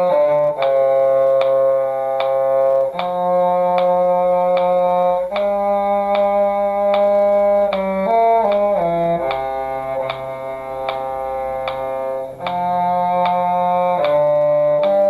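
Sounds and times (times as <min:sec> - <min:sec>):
duet with cello: 0:00.0 - 0:15.0
metronome-like tick: 0:00.0 - 0:15.0.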